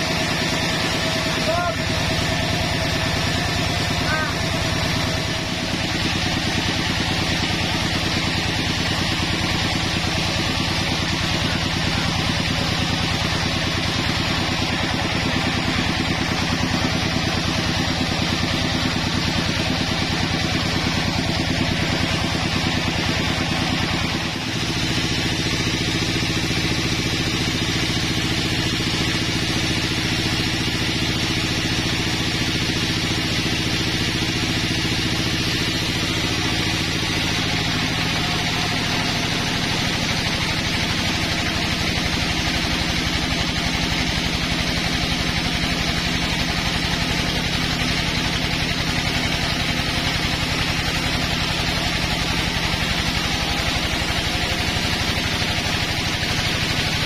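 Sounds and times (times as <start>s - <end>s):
band saw machine drone: 0.0s - 57.0s.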